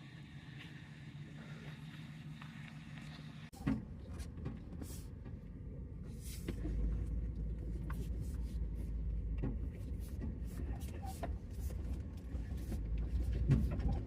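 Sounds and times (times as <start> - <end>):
vehicle rumble from inside: 0.0 - 14.0.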